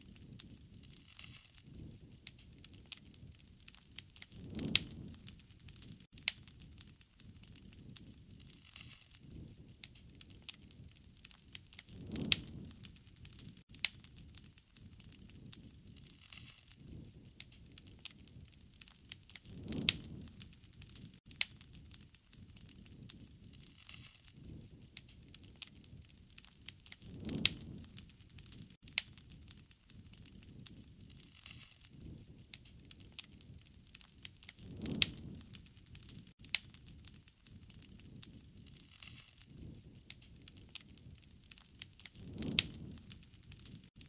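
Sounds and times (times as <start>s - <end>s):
low rushing of flame: 0.0s - 44.0s
wood fire crackling and popping: 0.0s - 44.0s.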